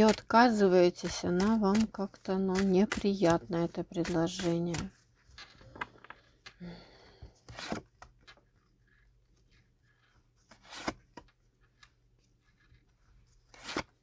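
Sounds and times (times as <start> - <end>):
cards rustling and tapping: 0.0 - 6.6, 7.2 - 14.0.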